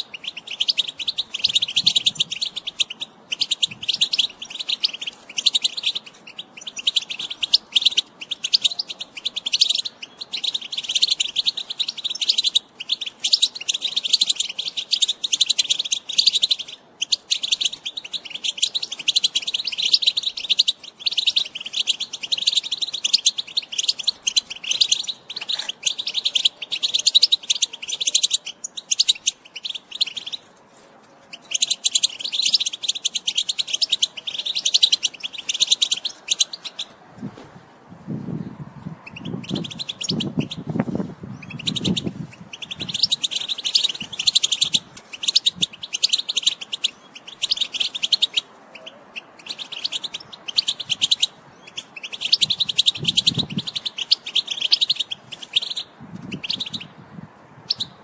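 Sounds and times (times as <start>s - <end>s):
finch twittering: 0.0s - 30.5s, 31.3s - 37.0s, 39.0s - 57.0s, 57.6s - 58.0s.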